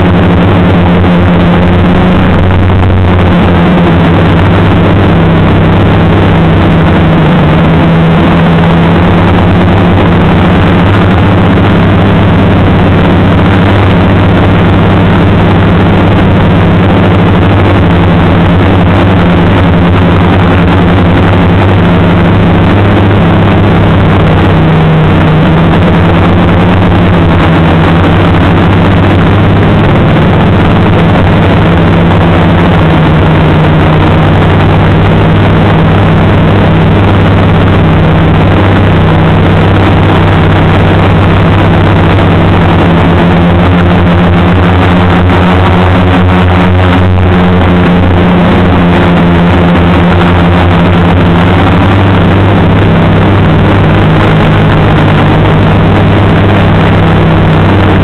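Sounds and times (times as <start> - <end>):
drone motors and propellers humming: 0.0 - 58.0.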